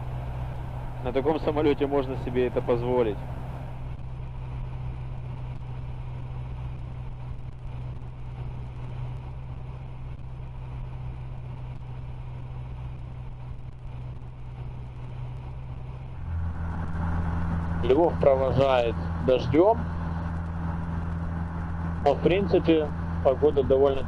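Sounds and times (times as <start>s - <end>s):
propeller plane engine drone: 0.0s - 24.0s.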